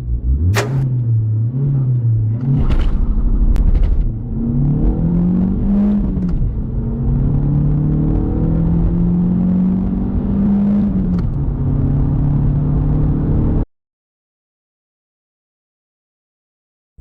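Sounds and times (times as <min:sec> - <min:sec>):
car engine accelerating hard: 0:00.0 - 0:13.6.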